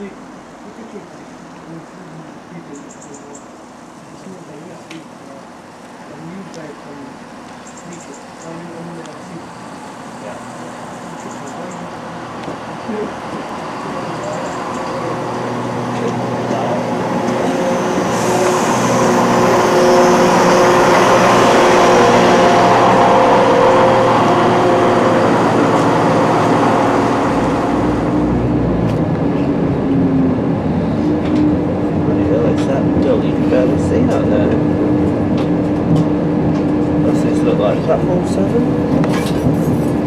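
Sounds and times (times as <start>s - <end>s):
wheel and rail noise: 0.0s - 40.0s
train machinery tones: 7.0s - 40.0s.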